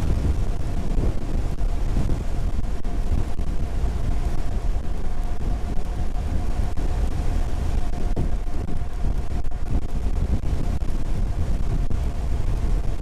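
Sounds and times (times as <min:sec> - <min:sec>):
faint steady whine: 0:00.0 - 0:13.0
wind buffeting microphone: 0:00.0 - 0:13.0.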